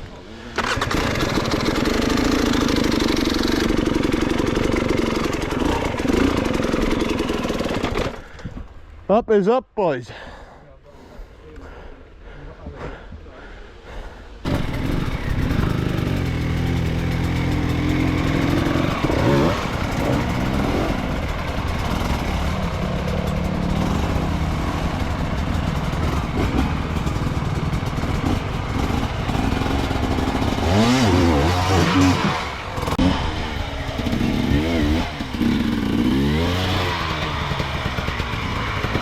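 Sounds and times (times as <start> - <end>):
dirt bike engine revving: 0.1 - 8.3, 14.4 - 39.0.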